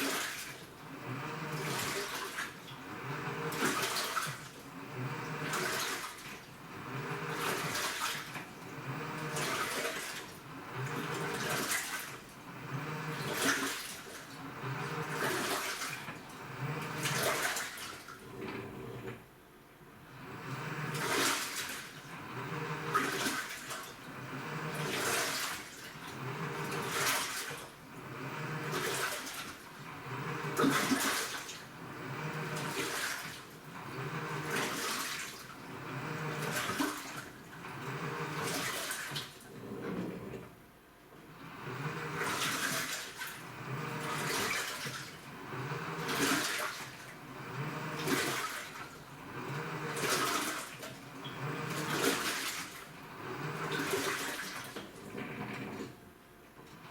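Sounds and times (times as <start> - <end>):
water churning in washing machine: 0.0 - 56.9
low motor hum: 0.8 - 11.7, 12.4 - 13.6, 14.3 - 17.2, 18.2 - 23.3, 24.0 - 25.2, 26.0 - 27.1, 27.8 - 33.0, 33.6 - 38.6, 39.4 - 40.6, 41.2 - 54.2.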